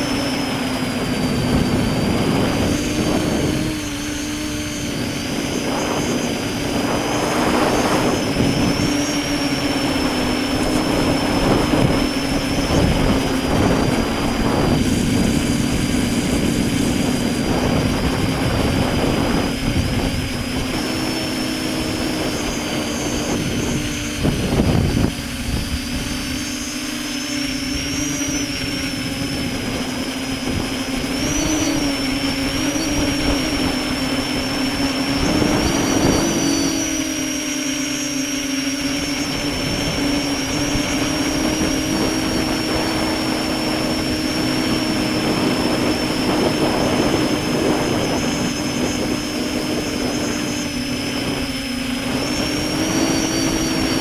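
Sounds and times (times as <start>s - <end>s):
buffeting rumbles: 0.0s - 54.0s
multirotor propellers droning: 0.0s - 54.0s.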